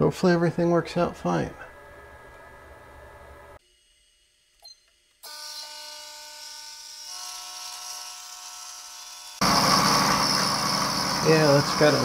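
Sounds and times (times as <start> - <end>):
milling machine whine: 1.7 - 12.0.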